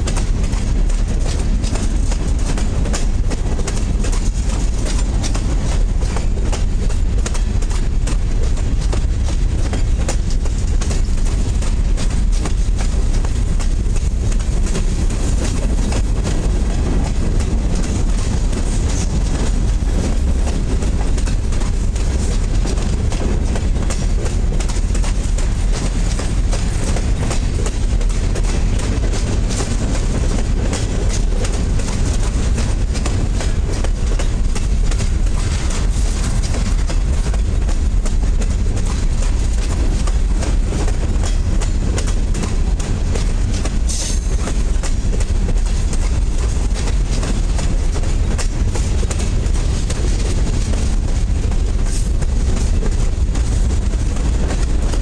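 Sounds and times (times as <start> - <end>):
freight train rumbling past: 0.0 - 55.0
wheels clacking on rails: 0.0 - 55.0.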